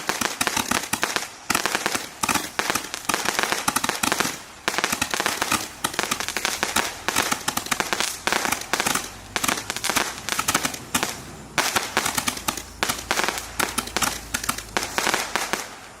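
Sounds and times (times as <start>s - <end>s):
roman candle fireworks crackling: 0.0s - 16.0s.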